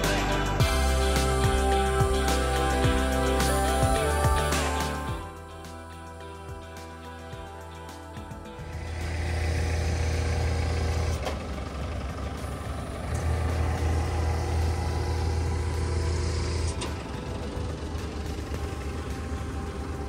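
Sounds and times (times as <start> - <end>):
heavy engine humming: 0.0 - 20.0.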